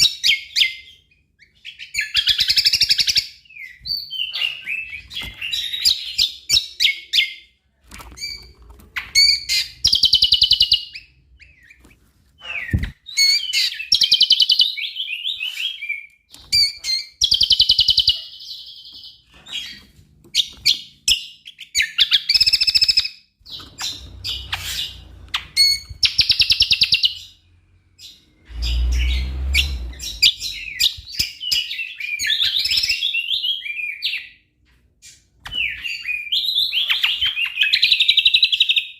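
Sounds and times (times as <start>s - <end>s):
bird singing chirps and whistles: 0.0s - 7.4s, 9.0s - 11.8s, 12.4s - 19.8s, 20.4s - 27.4s, 28.0s - 34.4s, 35.1s - 38.9s.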